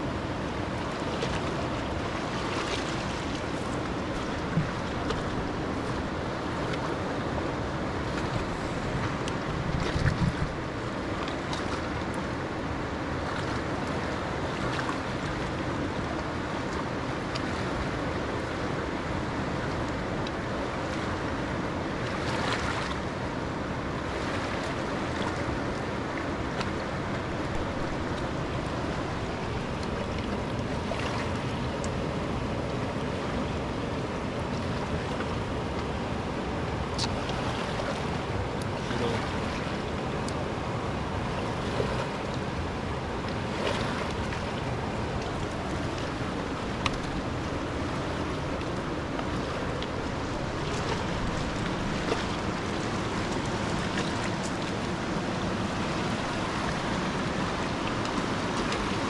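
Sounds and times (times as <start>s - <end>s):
rushing water: 0.0s - 59.0s
wind: 0.0s - 59.0s.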